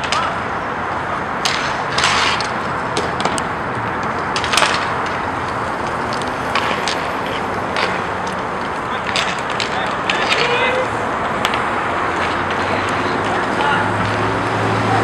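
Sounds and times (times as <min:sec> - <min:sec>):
hockey sticks and puck clacking: 0:00.0 - 0:15.0
rolling skates on rink: 0:00.0 - 0:15.0.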